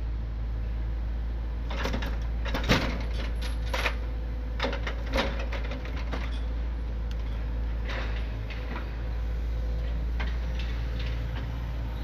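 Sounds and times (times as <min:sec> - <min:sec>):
excavator engine humming: 0:00.0 - 0:12.0.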